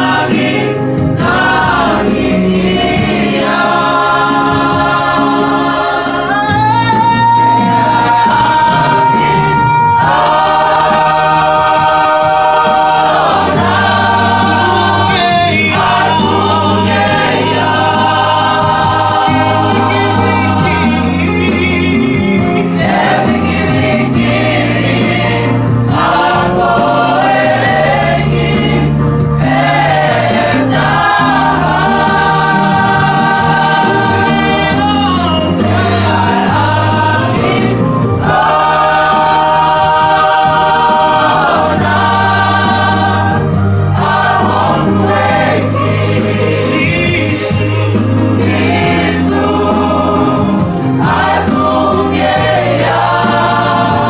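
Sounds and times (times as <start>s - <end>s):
mixed choir singing a hymn: 0.0s - 54.0s.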